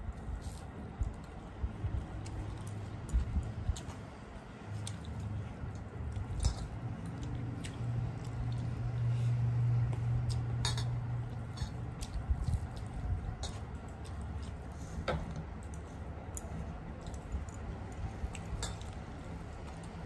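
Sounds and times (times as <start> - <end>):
low steady hum: 0.0 - 20.0
chewing and mouth smacks: 0.1 - 20.0
fingers squishing food on steel plate: 0.2 - 20.0.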